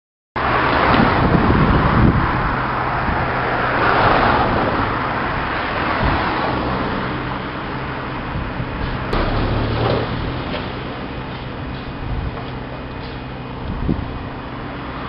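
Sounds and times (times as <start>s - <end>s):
electric train rolling on tracks: 0.4s - 15.0s
rumble of moving vehicles: 0.4s - 15.0s.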